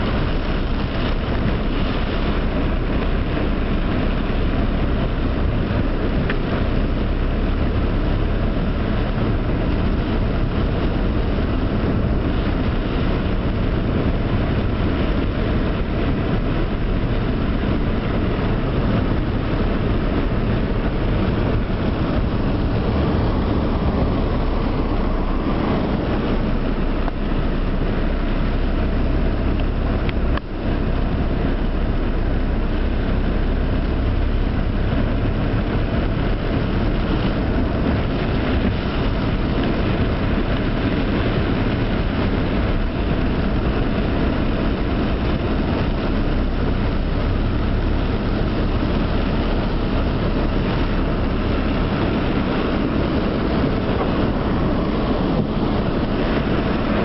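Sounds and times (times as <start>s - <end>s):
car engine running: 0.0s - 57.0s
heavy rain on car roof: 0.0s - 57.0s
tyres through floodwater: 0.0s - 57.0s.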